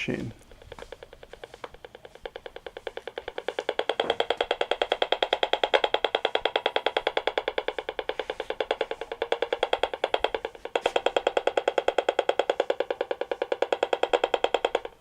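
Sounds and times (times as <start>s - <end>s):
rapid buzzing clicks: 0.0s - 15.0s.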